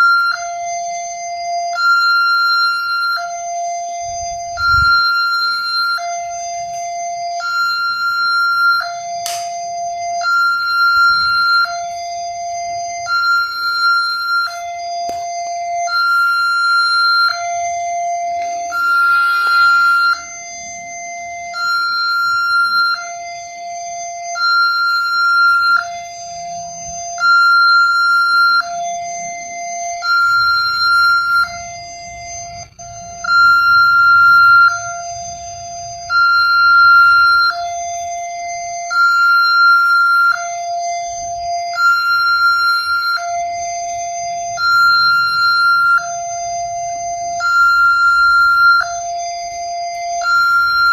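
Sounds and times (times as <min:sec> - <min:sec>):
two-tone warning siren: 0:00.0 - 0:50.9.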